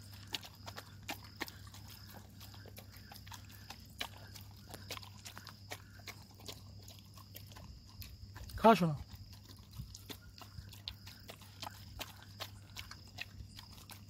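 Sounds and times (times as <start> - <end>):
dogs chewing and licking: 0.0 - 14.0.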